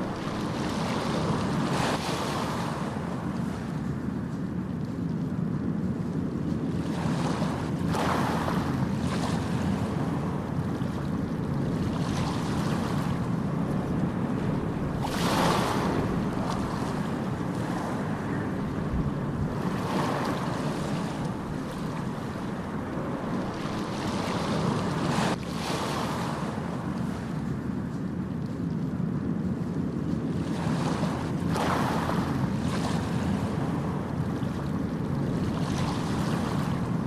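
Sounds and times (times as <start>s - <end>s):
low rumble of waves: 0.0s - 37.0s.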